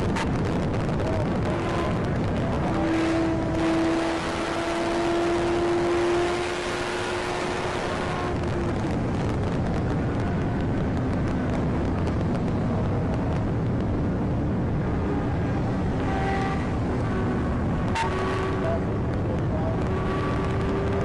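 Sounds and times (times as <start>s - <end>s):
car engine running: 0.0s - 21.0s
road and wind noise: 0.0s - 21.0s.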